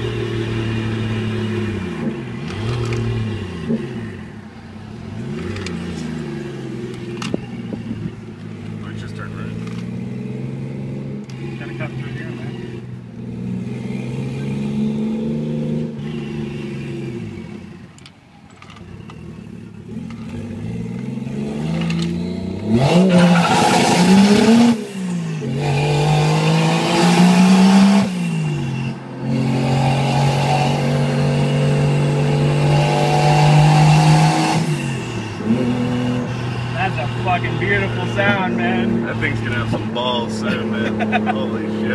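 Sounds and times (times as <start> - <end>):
turbocharged car engine revving: 0.0 - 18.0, 18.7 - 41.9.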